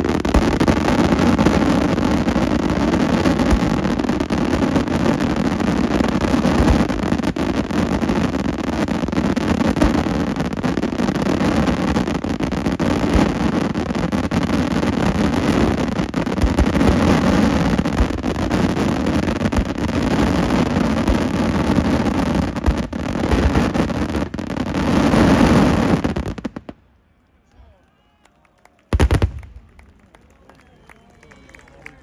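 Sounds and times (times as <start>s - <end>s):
fireworks banging: 0.0s - 26.7s, 28.9s - 30.2s.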